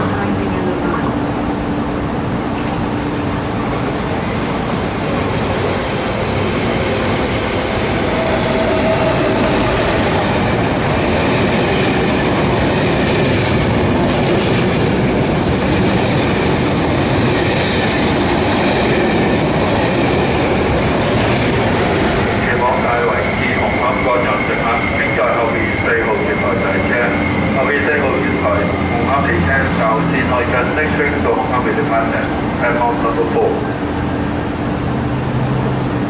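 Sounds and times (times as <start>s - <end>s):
train rail rumble: 0.0s - 36.0s.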